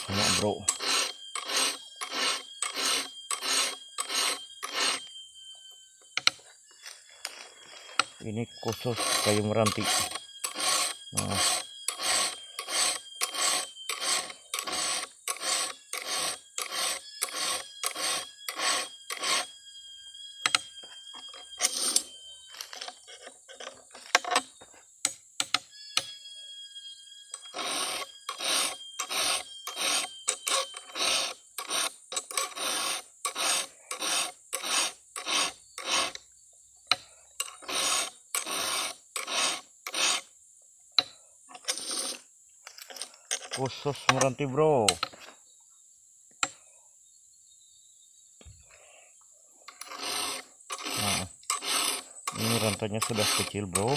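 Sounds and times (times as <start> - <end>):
file rasping on chainsaw chain: 0.0 - 5.1, 6.2 - 19.6, 20.4 - 24.5, 27.3 - 36.2, 36.9 - 40.3, 41.0 - 45.2, 49.7 - 53.9.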